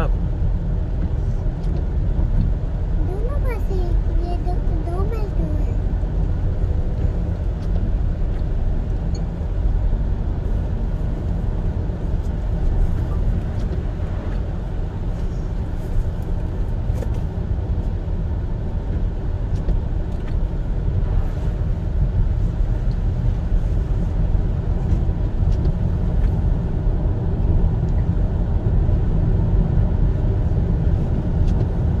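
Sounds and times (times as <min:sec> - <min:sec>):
car driving on wet road: 0:00.0 - 0:32.0.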